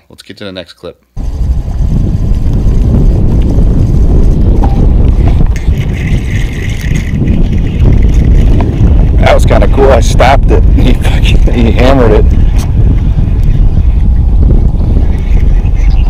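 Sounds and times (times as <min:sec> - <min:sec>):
wind buffeting microphone: 0:01.2 - 0:16.0.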